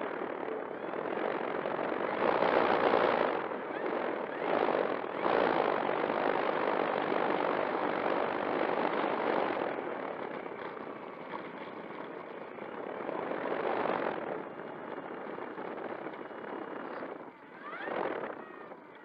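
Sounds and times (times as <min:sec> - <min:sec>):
electric motor and propeller running: 0:00.0 - 0:19.0.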